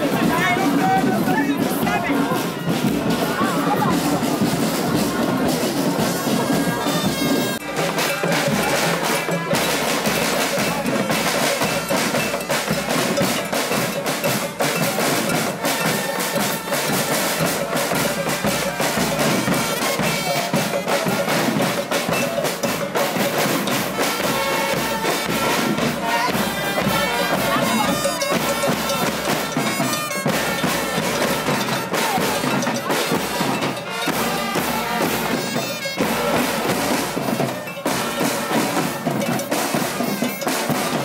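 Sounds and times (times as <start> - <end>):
drums beaten rapidly: 0.0 - 41.0
trumpet melody: 0.0 - 41.0.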